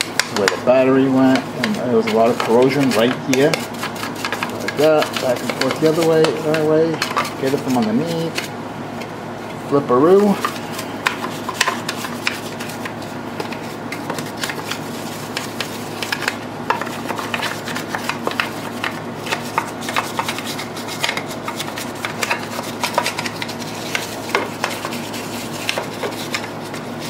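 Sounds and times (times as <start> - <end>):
brush scrubbing wet plastic: 1.0 - 8.5, 10.0 - 27.0.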